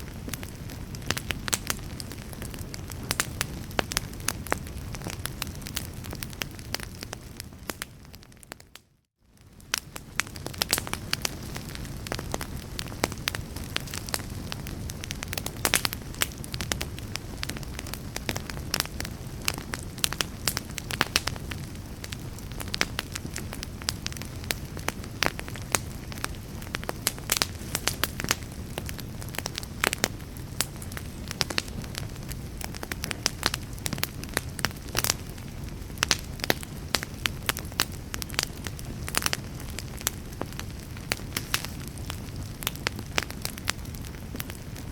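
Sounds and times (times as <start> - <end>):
low rumble of flames: 0.0 - 44.9
wood fire crackling: 0.0 - 44.9.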